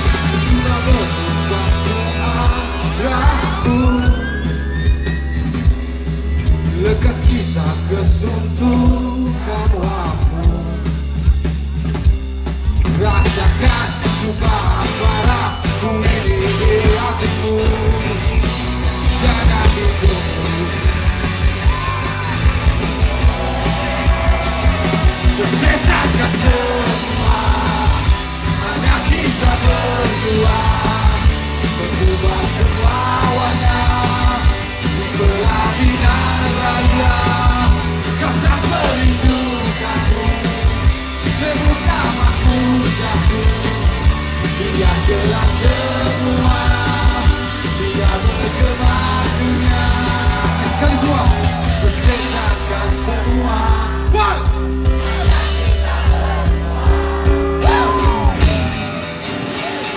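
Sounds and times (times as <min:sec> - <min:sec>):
person singing: 0:00.0 - 0:04.8, 0:06.5 - 0:10.9, 0:12.9 - 0:22.4, 0:23.0 - 0:59.1
bass and drums: 0:00.0 - 0:59.9
electric guitars: 0:00.0 - 0:59.9.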